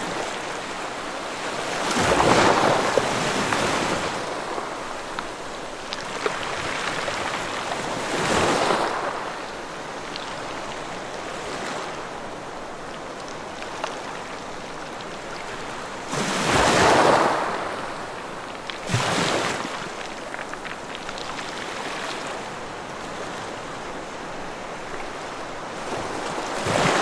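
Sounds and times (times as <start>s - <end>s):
ocean waves breaking on beach: 0.0s - 27.0s.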